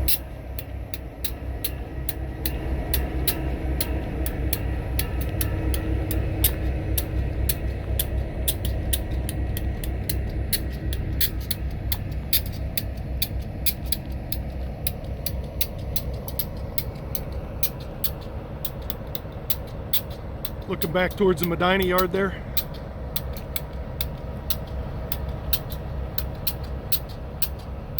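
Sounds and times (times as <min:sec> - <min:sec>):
diesel locomotive engine idling: 0:00.0 - 0:27.9.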